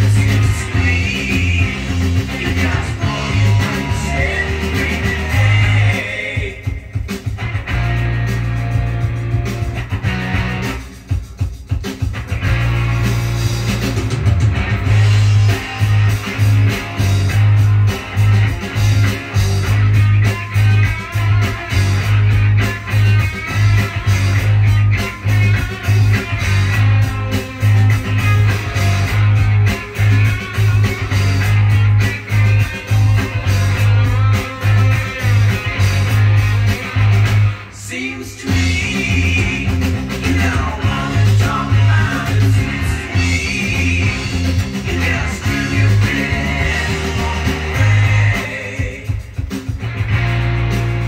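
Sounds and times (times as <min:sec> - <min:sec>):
rock music with electric guitar: 0:00.0 - 0:51.0.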